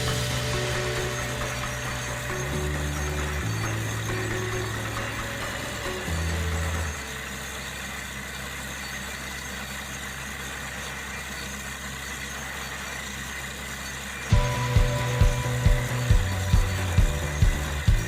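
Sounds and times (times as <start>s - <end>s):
drilling rig engine humming: 0.0s - 18.0s.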